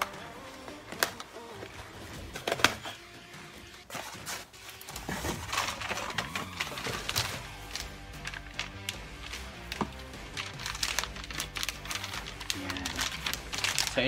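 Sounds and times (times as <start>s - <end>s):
background music: 0.0s - 14.0s
cardboard packaging rustling: 0.0s - 14.0s.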